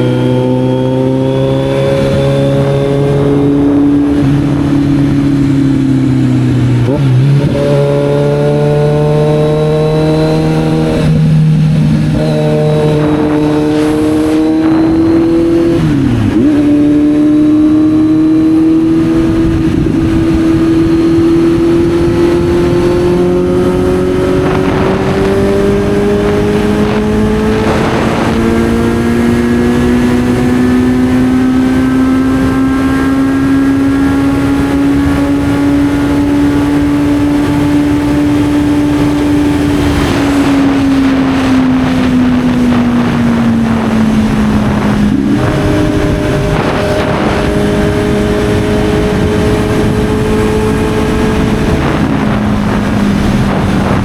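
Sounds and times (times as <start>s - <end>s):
motorcycle engine running: 0.0s - 54.0s
wind and road rush: 0.0s - 54.0s.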